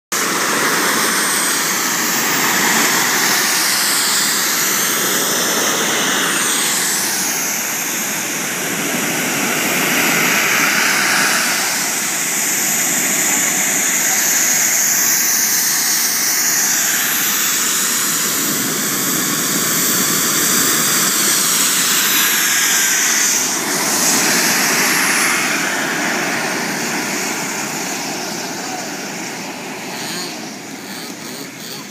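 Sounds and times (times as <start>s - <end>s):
model jet engines roaring: 0.1s - 31.9s.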